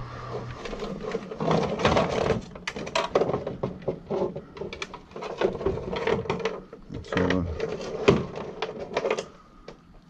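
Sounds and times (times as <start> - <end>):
small objects clicking and rattling: 0.6 - 9.8.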